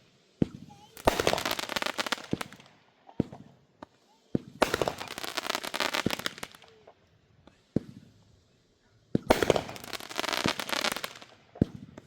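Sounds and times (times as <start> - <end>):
firework pops and crackles: 0.0 - 8.3, 9.1 - 12.0.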